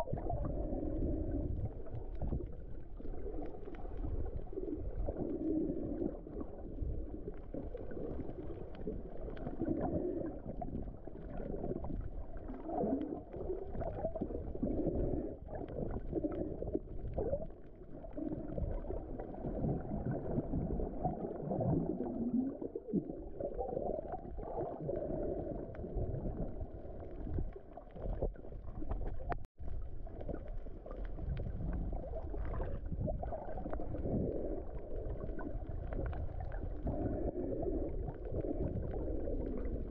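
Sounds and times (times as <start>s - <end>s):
underwater rumble: 0.0s - 39.9s.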